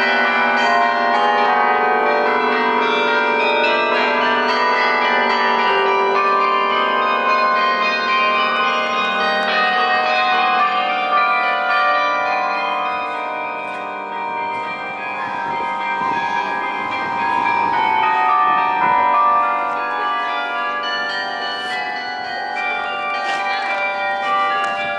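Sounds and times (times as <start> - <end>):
carillon bells ringing: 0.0 - 24.9.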